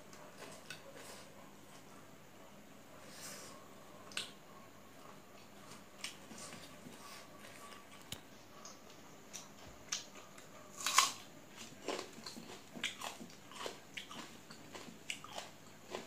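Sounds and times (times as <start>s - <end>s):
chewing and crunching: 0.0s - 1.9s, 5.0s - 16.0s.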